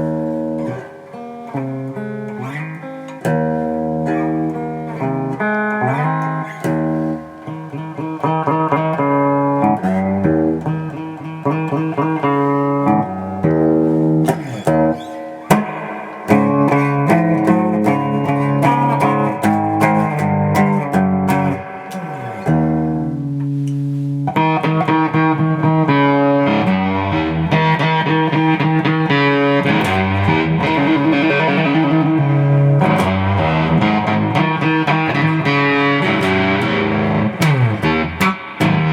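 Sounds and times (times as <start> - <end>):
electric guitar playing notes and chords: 0.0 - 38.9.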